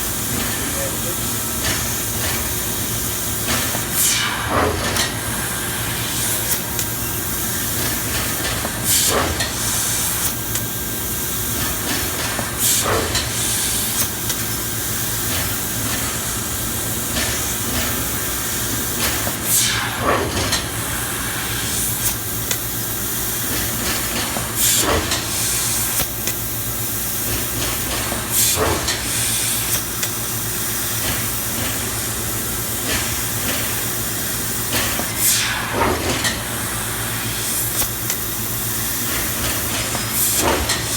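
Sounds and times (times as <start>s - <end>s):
laser cutter hissing: 0.0s - 40.9s.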